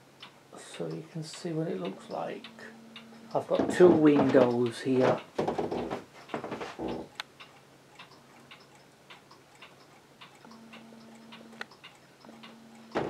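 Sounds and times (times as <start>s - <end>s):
low room hum: 0.0s - 13.0s
pendulum clock ticking: 0.0s - 13.0s.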